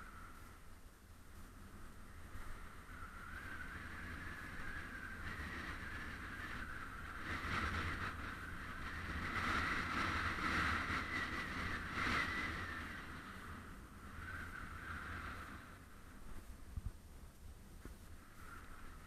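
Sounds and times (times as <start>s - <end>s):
bicycle road noise: 0.0s - 19.0s
muffled wind noise: 0.0s - 19.0s.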